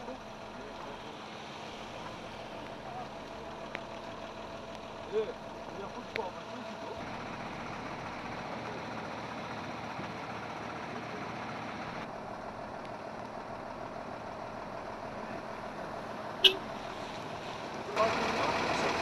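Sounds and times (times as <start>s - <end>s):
vehicle engines idling: 0.0s - 19.0s.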